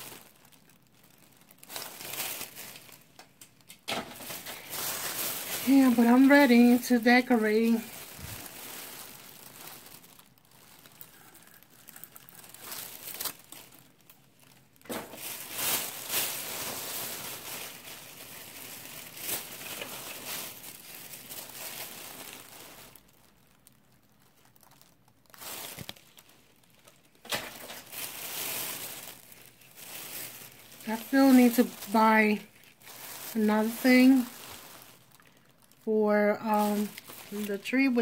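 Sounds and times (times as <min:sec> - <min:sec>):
plastic bags rustling: 0:00.0 - 0:38.0.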